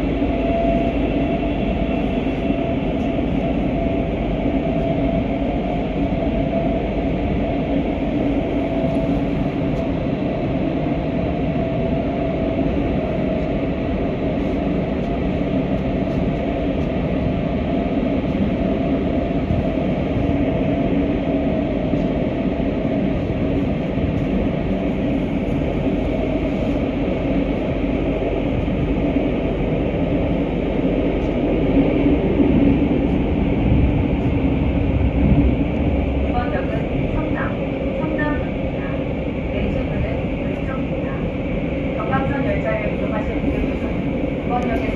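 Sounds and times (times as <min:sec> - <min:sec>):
train rumble and rush: 0:00.0 - 0:44.9.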